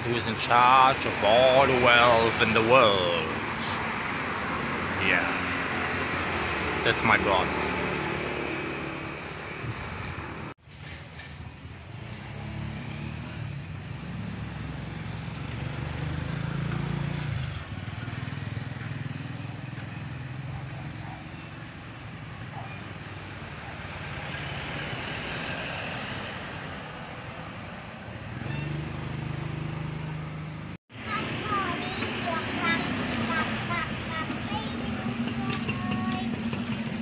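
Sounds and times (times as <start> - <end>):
passing vehicle engines: 0.0 - 37.0.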